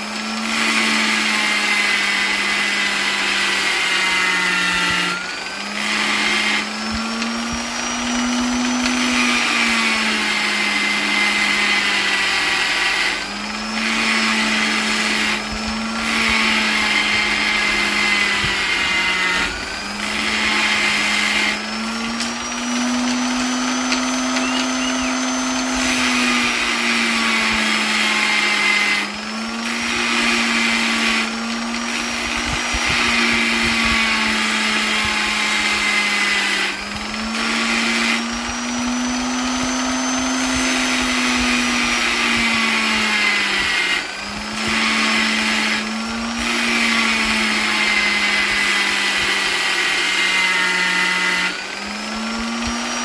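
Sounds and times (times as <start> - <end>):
electric polisher running: 0.0 - 53.0.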